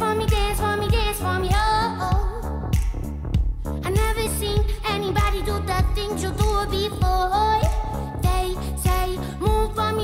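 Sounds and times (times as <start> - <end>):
song with sung melody: 0.0 - 10.0
kick drum beat: 0.3 - 9.8.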